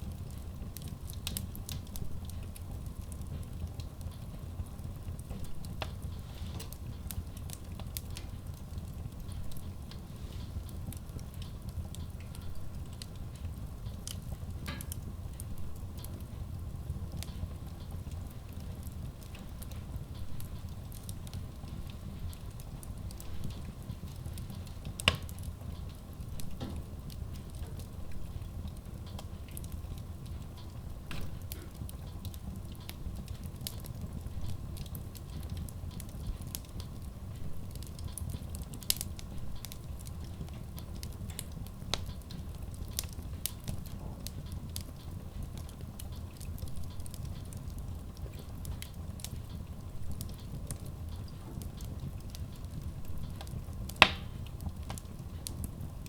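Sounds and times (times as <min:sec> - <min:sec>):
low rumble of fire: 0:00.0 - 0:56.0
wood logs crackling in stove: 0:00.0 - 0:56.0.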